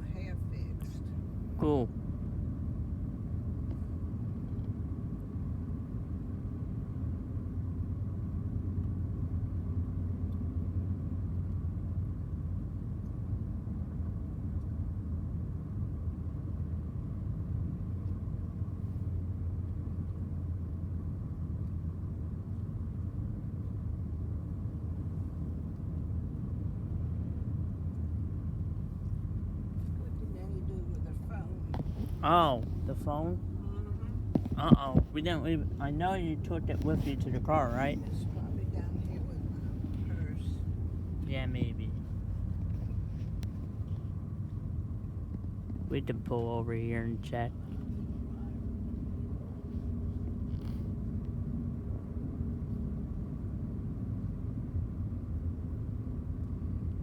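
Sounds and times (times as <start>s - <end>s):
car interior road noise: 0.0s - 57.0s.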